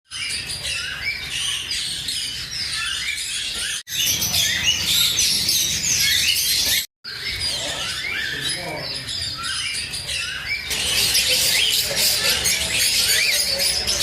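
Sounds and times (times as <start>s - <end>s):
small parrots chirping: 0.1s - 14.0s.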